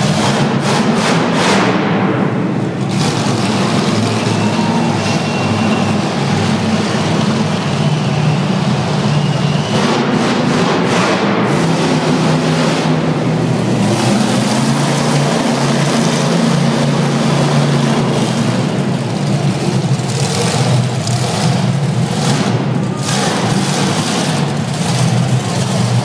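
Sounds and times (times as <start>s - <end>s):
monster truck engine running: 0.0s - 26.0s.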